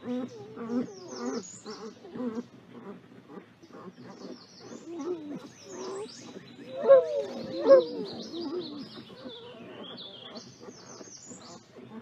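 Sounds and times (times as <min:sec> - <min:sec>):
wolves whining and moaning: 0:00.0 - 0:12.0.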